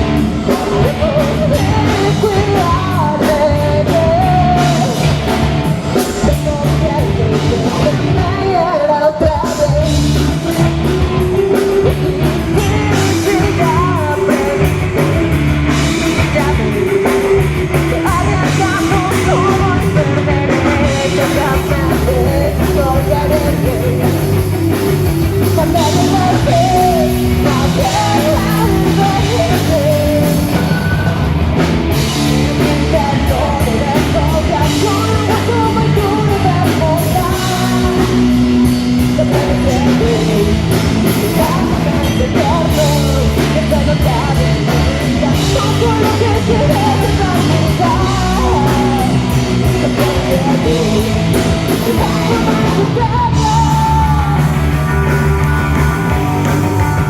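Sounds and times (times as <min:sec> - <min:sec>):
punk rock song: 0:00.0 - 0:57.0.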